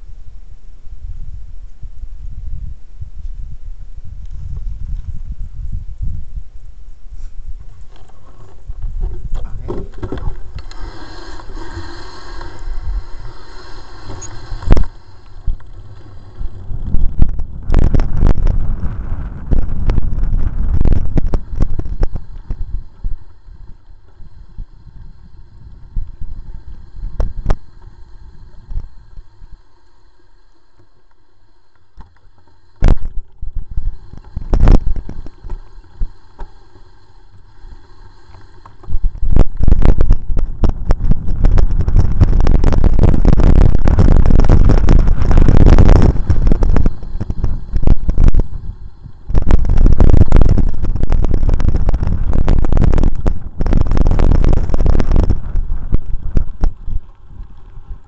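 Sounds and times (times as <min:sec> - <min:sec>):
wind and trail vibration rumble: 0:00.0 - 0:58.0.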